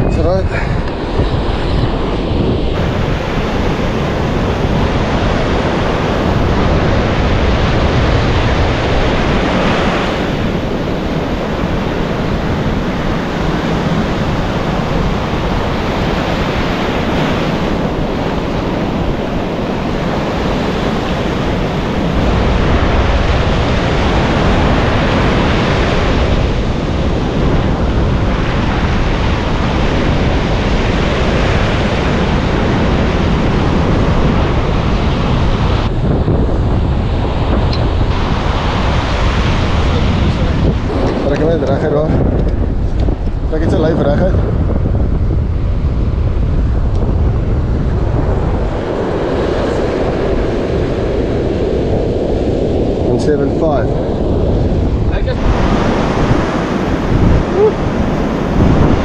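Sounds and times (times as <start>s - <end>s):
ocean surf breaking: 0.0s - 59.0s
wind rumbling on microphone: 0.0s - 59.0s.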